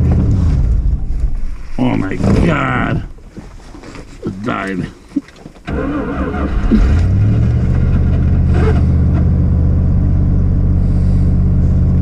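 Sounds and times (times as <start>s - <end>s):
car engine cranking and starting: 0.0s - 3.3s, 5.3s - 12.0s.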